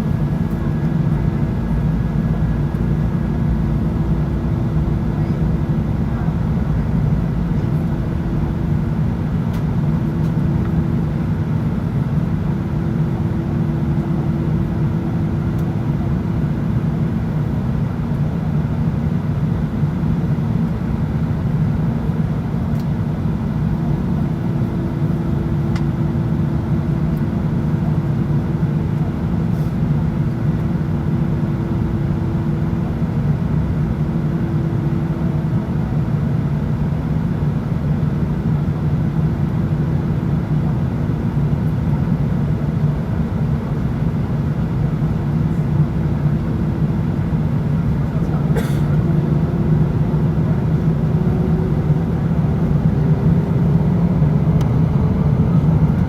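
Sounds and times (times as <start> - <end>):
aircraft cabin engine rumble: 0.0 - 56.0.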